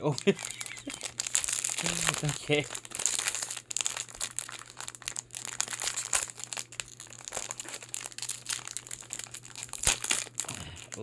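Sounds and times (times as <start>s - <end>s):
foil packet crinkling: 0.0s - 11.0s.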